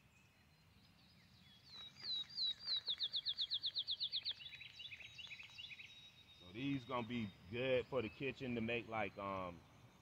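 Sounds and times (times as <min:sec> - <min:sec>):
bird singing whistled notes: 0:00.0 - 0:10.0
birds chirping faintly: 0:00.0 - 0:10.0.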